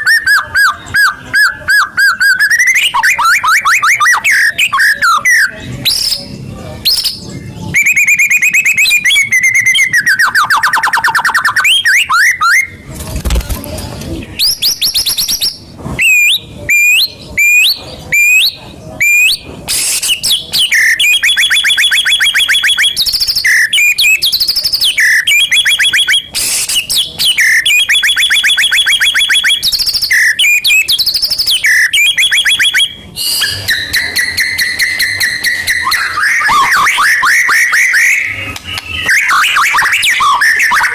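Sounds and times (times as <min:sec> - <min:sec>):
songbird trills and whistles: 0:00.0 - 0:12.8, 0:14.3 - 0:40.9.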